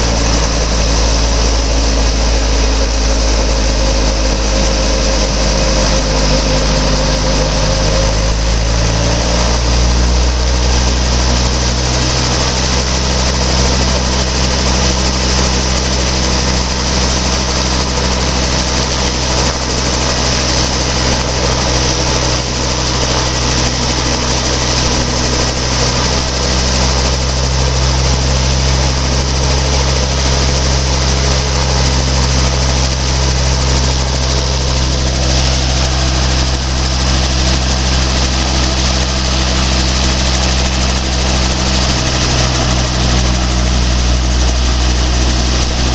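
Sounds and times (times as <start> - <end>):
helicopter engine and rotors: 0.0 - 45.9.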